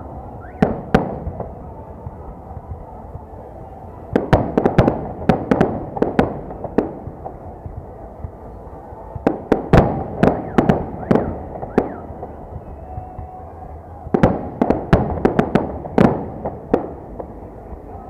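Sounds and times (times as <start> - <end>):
firework bangs: 0.0 - 18.0.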